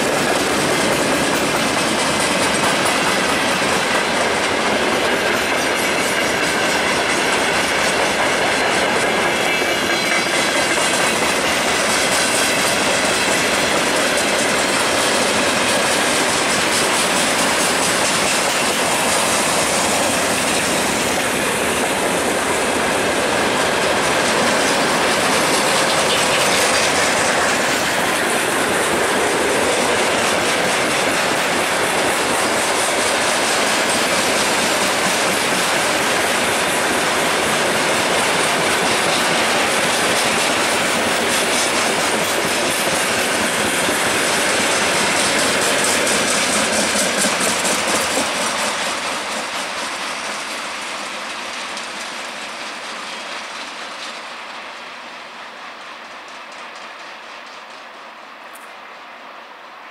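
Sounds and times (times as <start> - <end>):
rapid clickety-clack: 0.0 - 58.1
train wheels rumbling on rails: 0.0 - 59.9.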